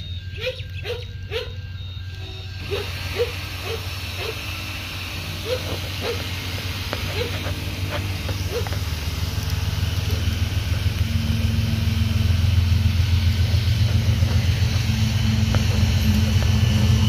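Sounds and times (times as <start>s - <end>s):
diesel locomotive engine rumble: 0.0s - 17.0s
steady hum: 0.0s - 17.0s.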